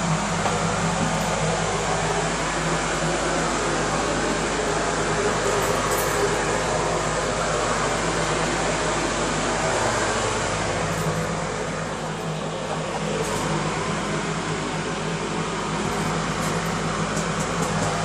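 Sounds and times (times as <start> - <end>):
constant rush of noise: 0.0 - 18.0
low machine hum: 0.0 - 18.0.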